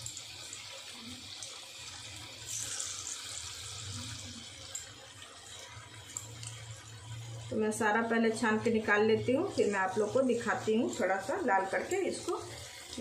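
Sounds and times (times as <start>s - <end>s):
oil bubbling while deep-frying: 0.0s - 13.0s.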